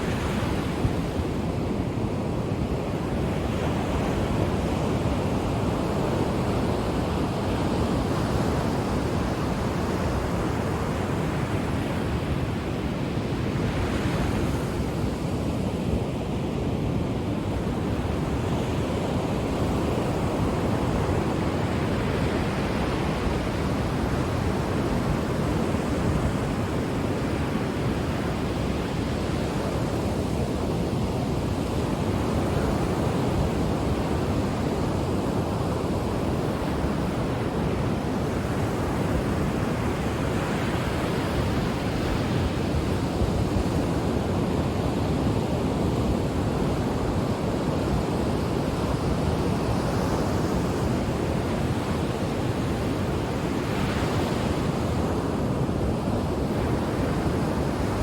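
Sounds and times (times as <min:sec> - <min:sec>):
ocean surf breaking on shore: 0:00.0 - 0:58.0.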